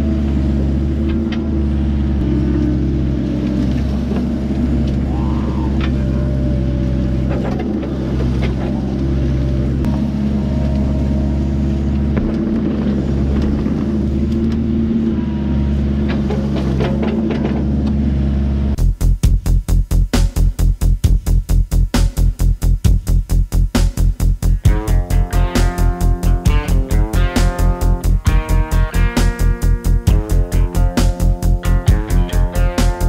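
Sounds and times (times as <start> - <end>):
excavator diesel engine running: 0.0 - 19.0, 24.4 - 33.0.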